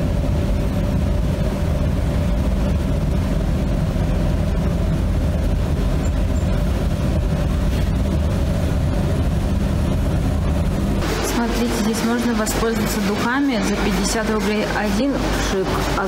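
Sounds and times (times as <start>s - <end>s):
faint steady hum: 0.0s - 16.0s
low rumbling noise: 0.0s - 16.0s.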